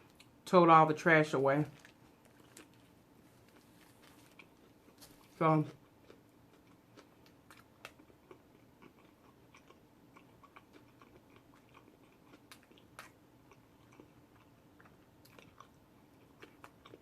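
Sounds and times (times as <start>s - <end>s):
person chewing food: 1.7s - 17.0s.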